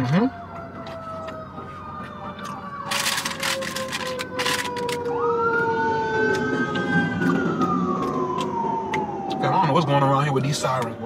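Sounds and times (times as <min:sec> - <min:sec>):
emergency sirens wailing: 0:00.0 - 0:11.0.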